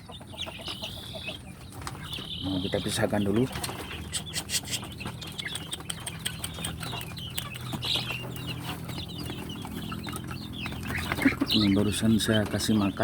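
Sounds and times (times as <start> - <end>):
chicks peeping and clucking: 0.0 - 13.0.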